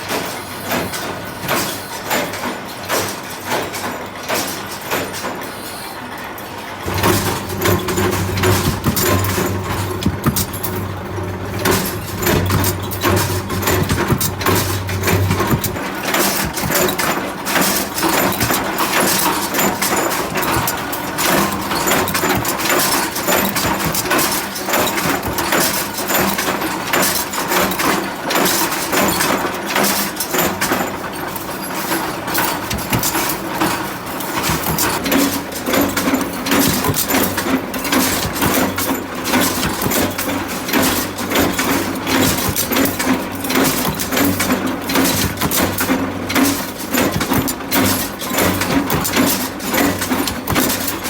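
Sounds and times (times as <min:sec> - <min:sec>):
factory machinery hum: 0:00.0 - 0:51.0
metallic clanks and knocks: 0:06.8 - 0:51.0.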